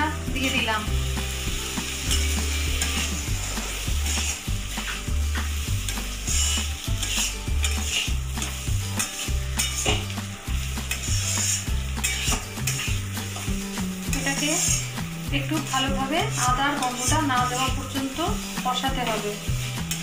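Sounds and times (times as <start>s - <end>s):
food sizzling in hot oil: 0.0s - 20.0s
spatula scraping metal pot: 2.1s - 20.0s.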